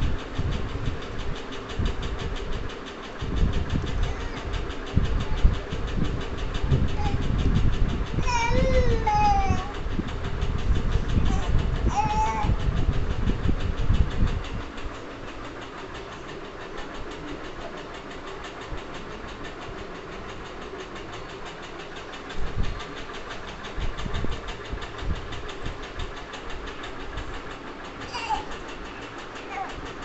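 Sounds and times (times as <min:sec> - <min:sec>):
machine running with rapid ticking: 0:00.0 - 0:30.0.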